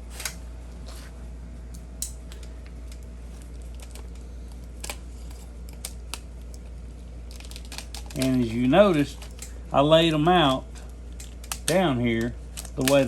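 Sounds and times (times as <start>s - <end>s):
steady low hum: 0.0s - 13.0s
packaging being handled: 2.2s - 13.0s.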